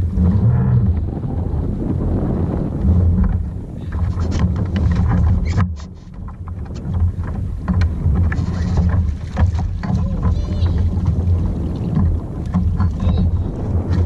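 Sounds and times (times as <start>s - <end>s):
water splashing against kayak: 0.0s - 14.0s
wind buffeting microphone: 0.0s - 14.0s.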